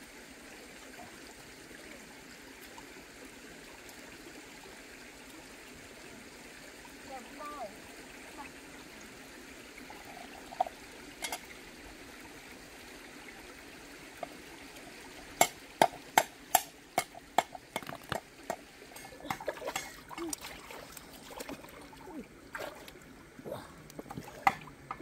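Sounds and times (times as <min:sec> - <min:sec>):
shallow stream trickling: 0:00.0 - 0:25.0.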